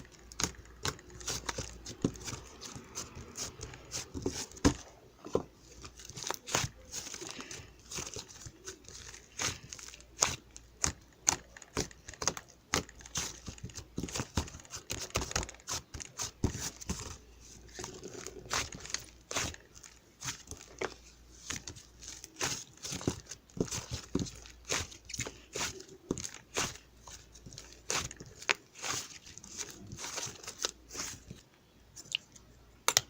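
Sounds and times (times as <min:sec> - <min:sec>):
crinkling and tearing: 0:00.0 - 0:04.9, 0:05.6 - 0:32.3.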